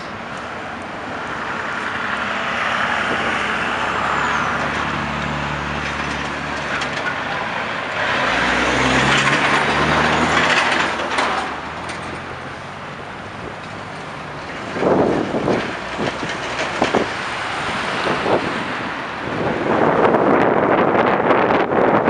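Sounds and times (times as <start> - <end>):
bus passing: 0.0 - 22.0
traffic noise: 0.0 - 22.0
truck engine passing close: 0.0 - 22.0.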